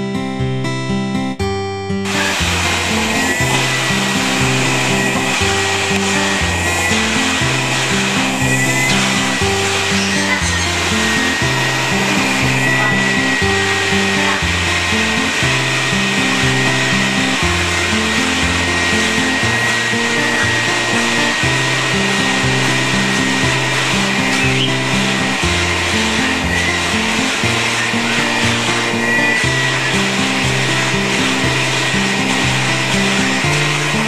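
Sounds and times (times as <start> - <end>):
background music with bass line: 0.0 - 34.0
vacuum cleaner whining: 2.1 - 34.0.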